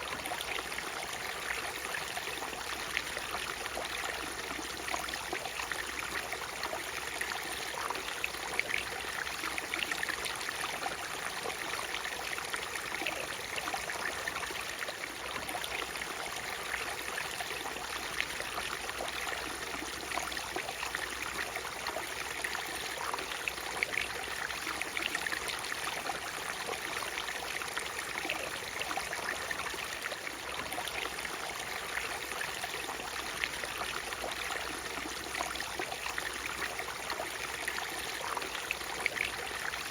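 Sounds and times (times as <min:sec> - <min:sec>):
water splashes and trickles: 0:00.0 - 0:39.9.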